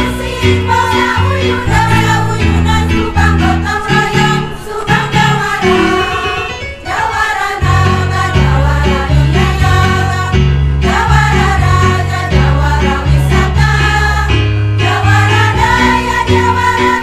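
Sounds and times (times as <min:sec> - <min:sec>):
women's choir singing in harmony: 0:00.0 - 0:17.0.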